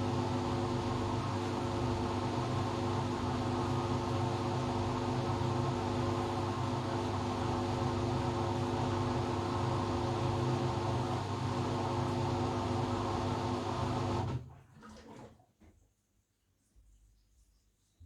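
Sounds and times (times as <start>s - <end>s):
washing machine spin cycle: 0.0s - 15.8s.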